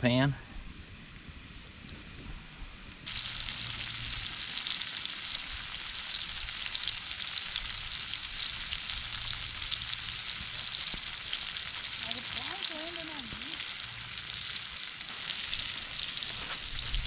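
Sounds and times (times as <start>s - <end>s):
peppers sizzling in hot oil: 2.8s - 17.0s.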